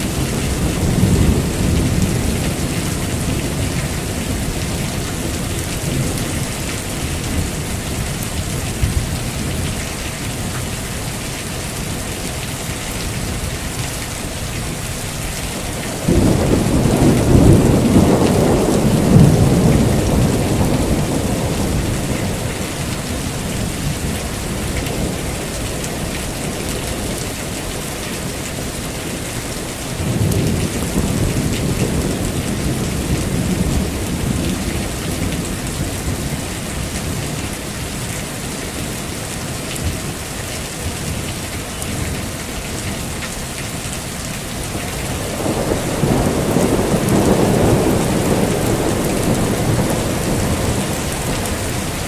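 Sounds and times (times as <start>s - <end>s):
thunder rumbling: 0.0s - 10.5s, 14.7s - 43.0s, 44.2s - 52.0s
heavy rain: 0.0s - 52.0s.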